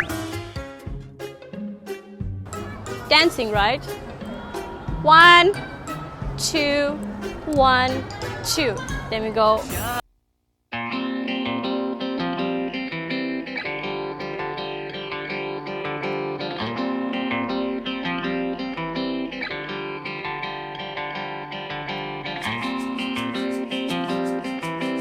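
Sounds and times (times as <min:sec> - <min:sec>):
plucked string instrumental music: 0:00.0 - 0:10.0, 0:10.8 - 0:25.0.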